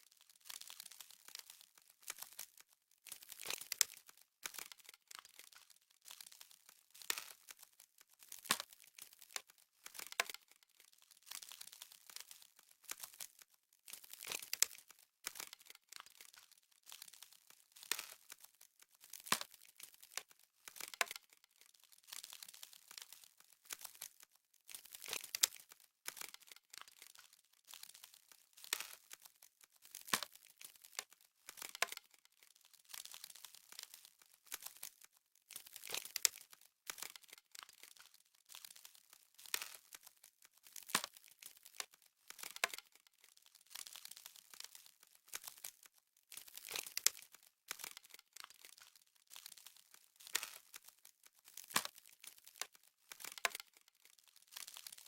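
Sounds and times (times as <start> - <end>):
crisp crackling and crunching: 0.0 - 55.0.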